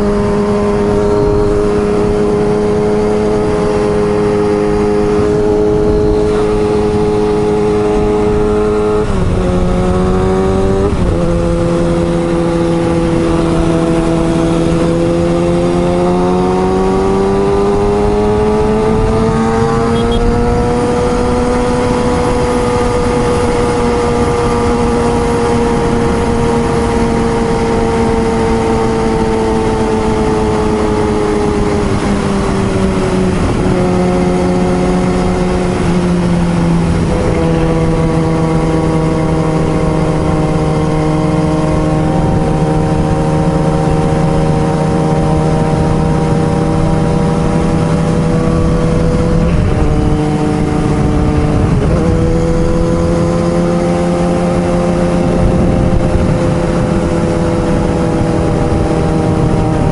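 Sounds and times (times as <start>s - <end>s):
motorcycle engine running hard: 0.0s - 59.9s.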